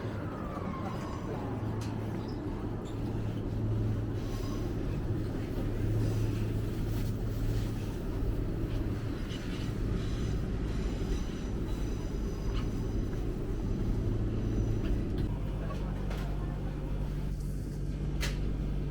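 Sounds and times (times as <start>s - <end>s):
heavy vehicle engine humming: 0.0s - 18.9s.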